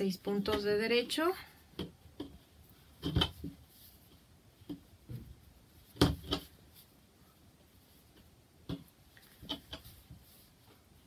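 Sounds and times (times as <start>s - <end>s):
soft knocks and brushes on tabletop: 0.0s - 11.0s.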